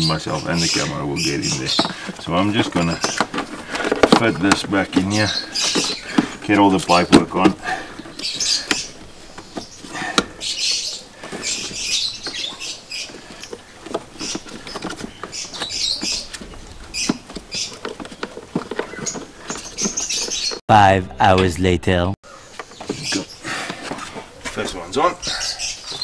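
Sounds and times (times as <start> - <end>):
rubber hoses squeaking and rubbing: 0.0 - 20.6, 22.7 - 26.0.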